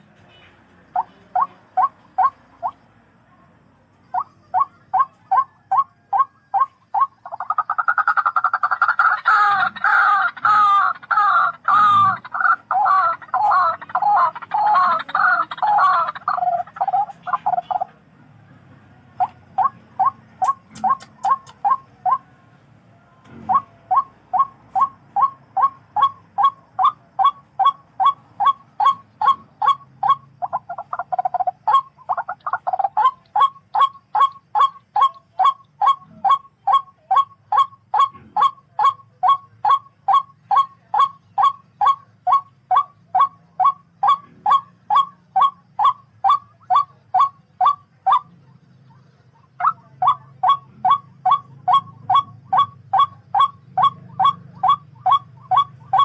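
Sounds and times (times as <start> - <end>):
bird calling sharp repeated notes: 0.0 - 2.8, 4.1 - 18.0, 19.1 - 22.4, 23.0 - 56.0.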